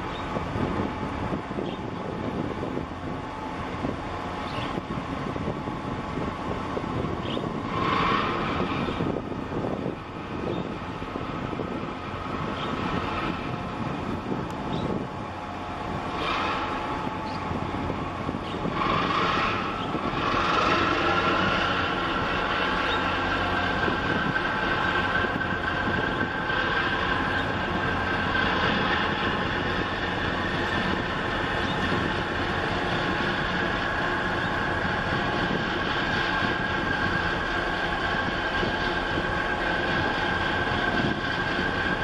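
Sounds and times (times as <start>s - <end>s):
ship machinery rumbling hum: 0.0s - 42.0s.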